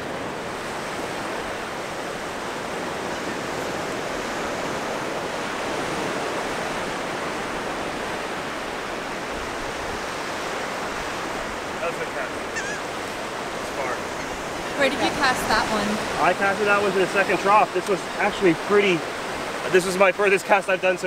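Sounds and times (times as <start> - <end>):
ocean surf washing ashore: 0.0 - 21.0.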